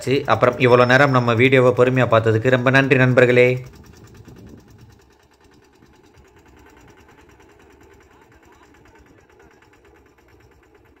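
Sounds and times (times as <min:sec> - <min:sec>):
small engine ticking: 0:00.0 - 0:11.0.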